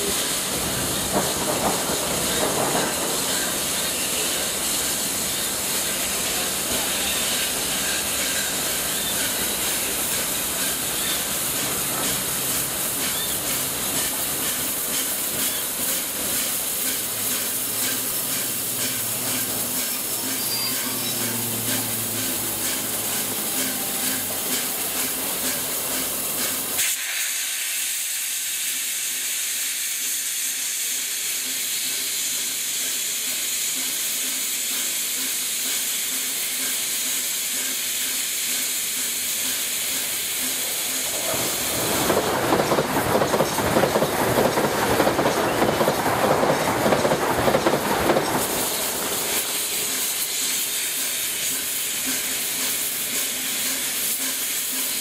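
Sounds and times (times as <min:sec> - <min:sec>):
rough rush of steam: 0:00.0 - 0:55.0
steam locomotive hissing: 0:00.0 - 0:55.0.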